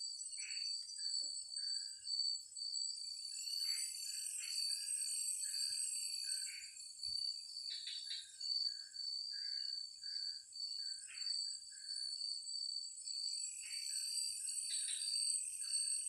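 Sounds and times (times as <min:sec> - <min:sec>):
insect chorus pulsing trill: 0:00.0 - 0:16.0.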